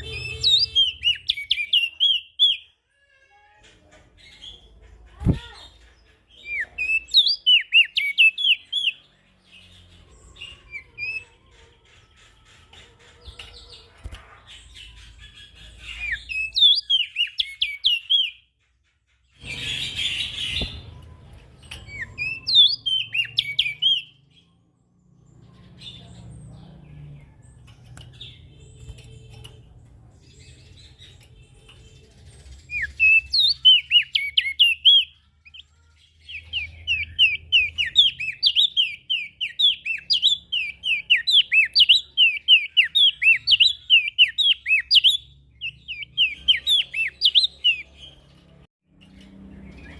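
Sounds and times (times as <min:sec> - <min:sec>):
bird singing rapid sweeping chirps: 0:00.0 - 0:02.7, 0:05.2 - 0:11.4, 0:14.5 - 0:18.6, 0:19.2 - 0:29.4, 0:30.2 - 0:48.3.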